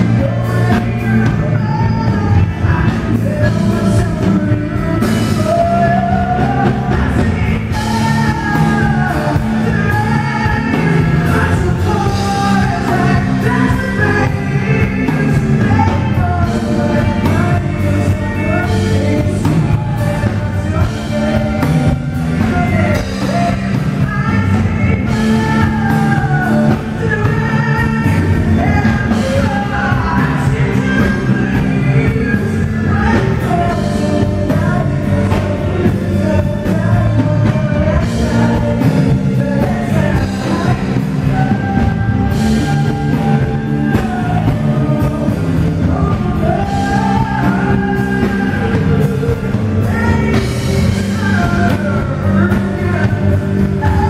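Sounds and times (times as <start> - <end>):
live rock band playing: 0.0 - 54.0
woman singing lead vocals: 0.0 - 54.0.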